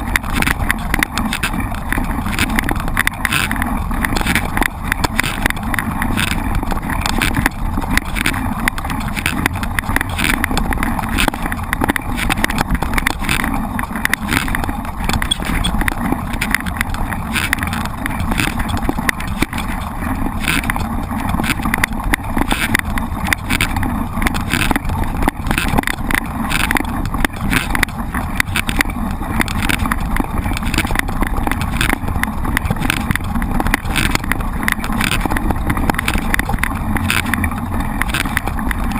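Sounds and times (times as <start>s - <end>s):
bike rattling over dirt: 0.0s - 38.9s
wind rumble on microphone: 0.0s - 38.9s.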